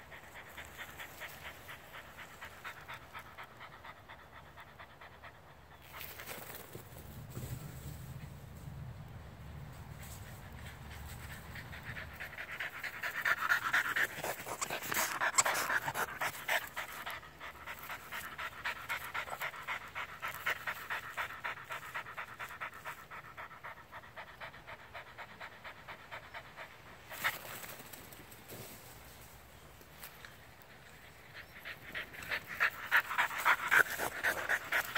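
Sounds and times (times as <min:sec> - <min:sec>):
dog panting hard: 0:00.0 - 0:06.5, 0:10.1 - 0:27.8, 0:31.1 - 0:34.9.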